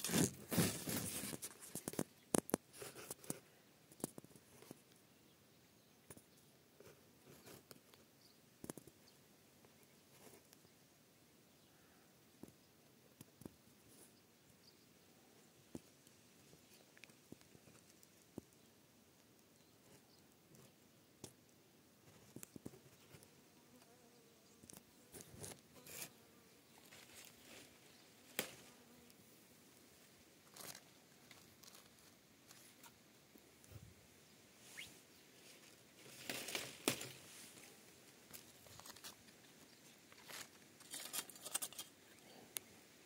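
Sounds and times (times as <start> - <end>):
crackling rustles: 0.0 - 5.0, 6.0 - 10.7, 15.7 - 21.4, 22.0 - 23.9, 24.6 - 33.8, 34.6 - 42.7.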